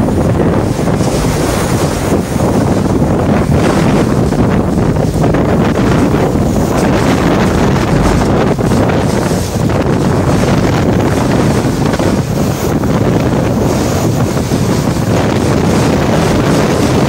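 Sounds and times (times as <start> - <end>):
wind buffeting microphone: 0.0 - 17.0
wind-driven rain: 0.0 - 17.0.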